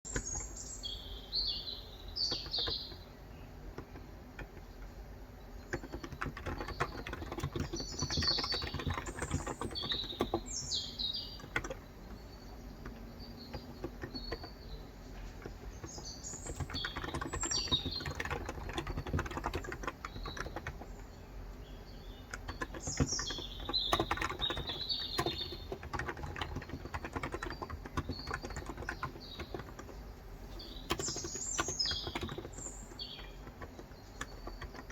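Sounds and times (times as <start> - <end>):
typing on a keyboard: 0.1 - 0.6, 2.2 - 34.9
birds chirping: 0.1 - 34.9.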